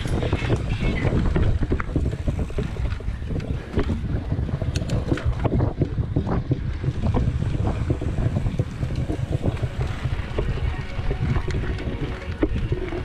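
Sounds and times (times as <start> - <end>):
bike clicks and rattles: 0.0 - 13.0
tyre noise on dirt: 0.0 - 13.0
wind buffeting microphone: 0.0 - 13.0.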